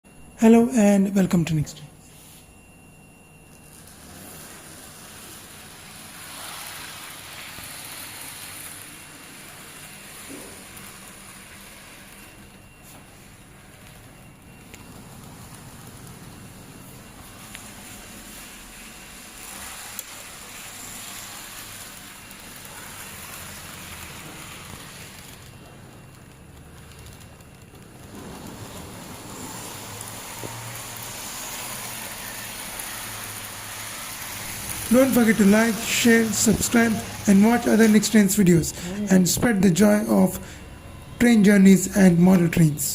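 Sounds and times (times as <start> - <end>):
model train running on track: 3.7 - 42.9.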